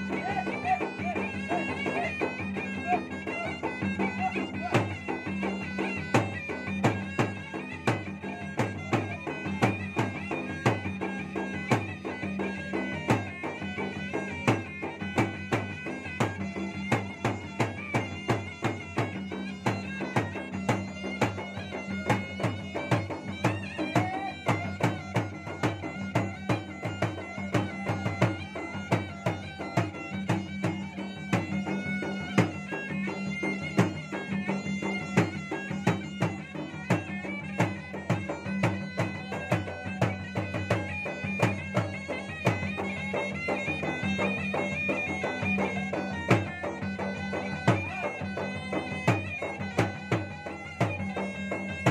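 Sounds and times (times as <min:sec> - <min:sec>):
drums beaten in fast rhythm: 0:00.0 - 0:51.9
reedy double-reed pipe melody: 0:00.0 - 0:51.9.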